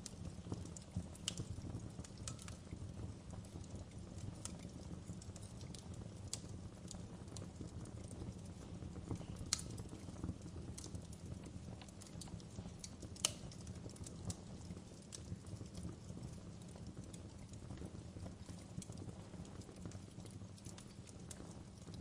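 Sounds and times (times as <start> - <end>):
fire crackling and popping: 0.0 - 22.0
low steady fire rumble: 0.0 - 22.0.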